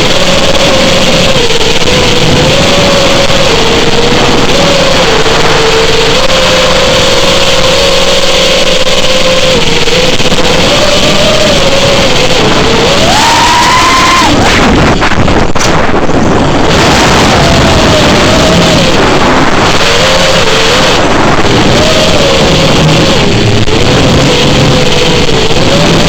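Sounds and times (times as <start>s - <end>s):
drone motors whining: 0.0s - 26.0s
wind rush: 0.0s - 26.0s.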